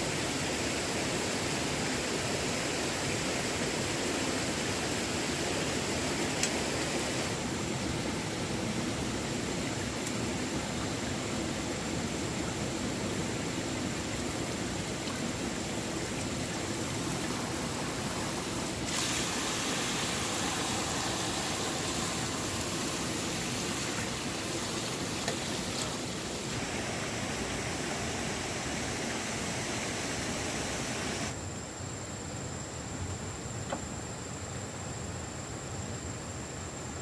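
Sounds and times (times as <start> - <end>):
flowing water rushing: 0.0 - 31.4
faint high whine: 0.0 - 37.0.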